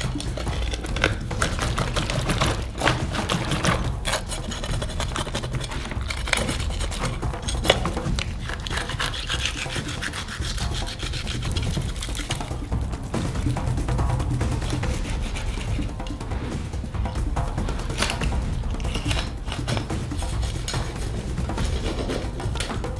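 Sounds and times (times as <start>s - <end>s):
knife sawing and scraping: 0.0s - 22.9s.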